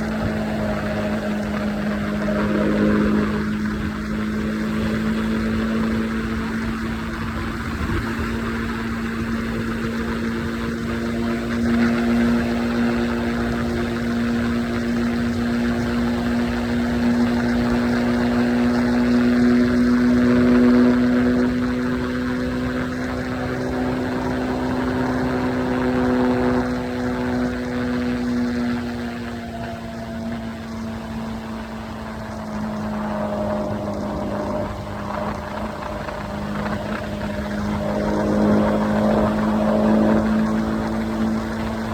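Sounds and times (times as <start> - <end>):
motorcycle engine cruising: 0.0 - 41.9
wind and road noise: 0.0 - 41.9.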